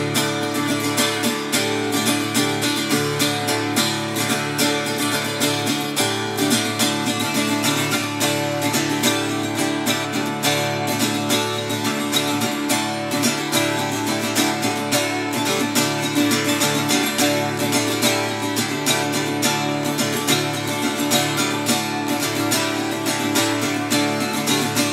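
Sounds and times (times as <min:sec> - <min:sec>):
acoustic guitar strumming: 0:00.0 - 0:24.9.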